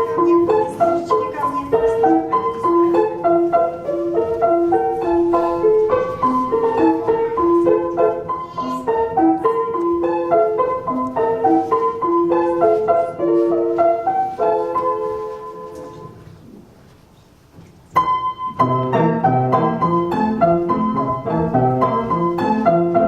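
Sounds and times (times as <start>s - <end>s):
bright piano melody: 0.0s - 16.9s, 17.5s - 23.0s.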